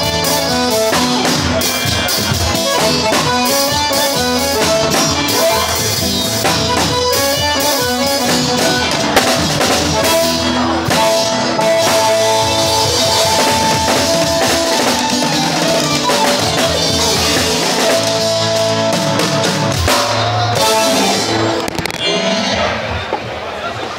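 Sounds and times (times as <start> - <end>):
drum kit with cymbals: 0.0 - 22.1
held melody notes: 0.0 - 22.2.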